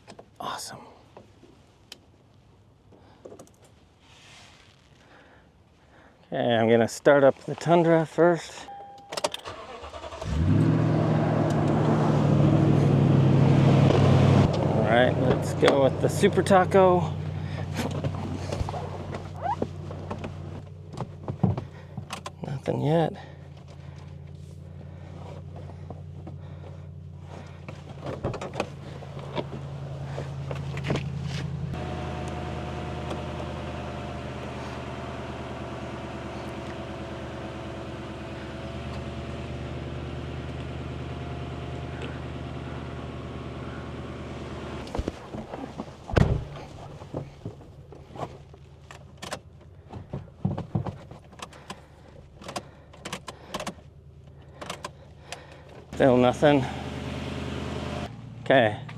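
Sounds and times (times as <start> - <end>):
truck engine idling: 9.4 - 50.4, 51.1 - 58.9.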